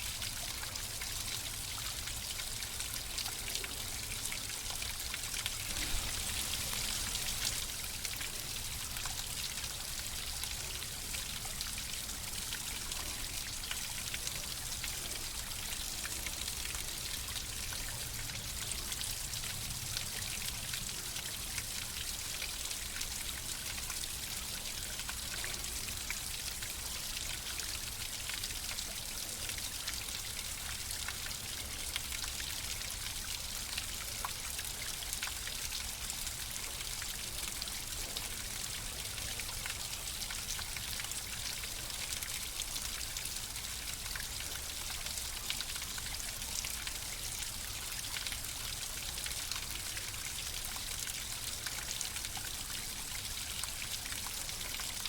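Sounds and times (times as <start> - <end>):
drips and splashes: 0.0 - 55.0
flowing water: 0.0 - 55.0.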